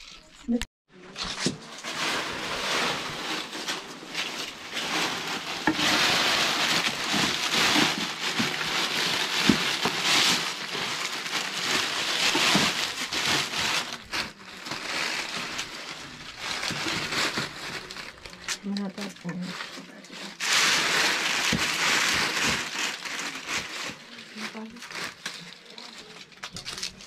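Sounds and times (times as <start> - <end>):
rustling of sacking and cloth: 1.1 - 25.9
crackling of dry pieces: 1.1 - 27.0.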